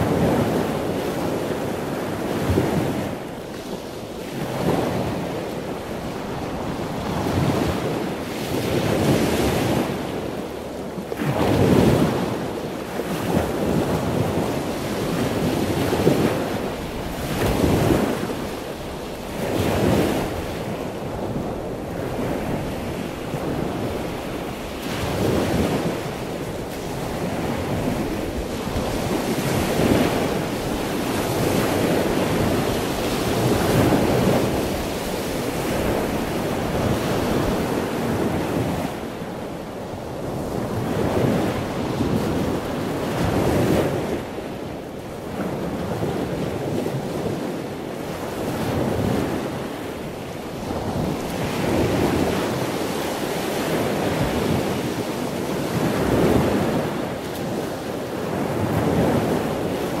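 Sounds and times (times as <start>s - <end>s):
surf washing against rocks: 0.0s - 60.0s.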